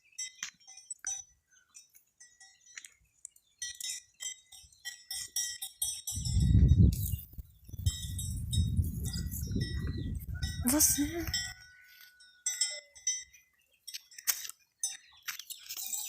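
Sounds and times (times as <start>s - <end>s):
livestock bells clinking: 0.0s - 16.0s.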